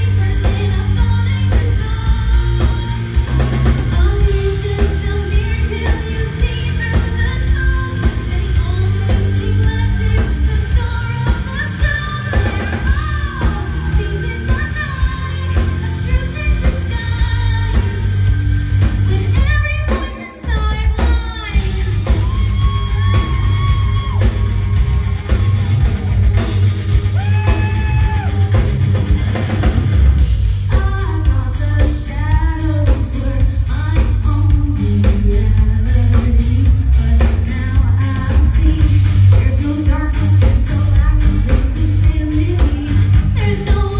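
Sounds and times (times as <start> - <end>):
live rock band playing: 0.0 - 43.9
woman singing lead: 0.0 - 43.9.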